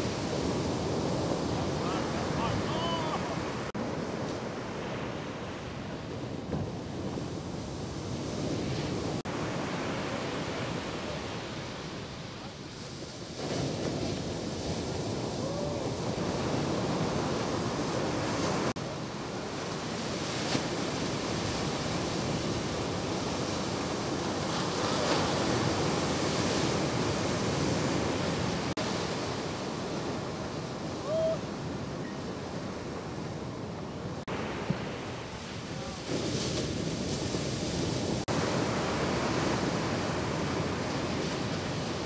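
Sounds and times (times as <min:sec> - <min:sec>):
waves breaking: 0:00.0 - 0:42.0.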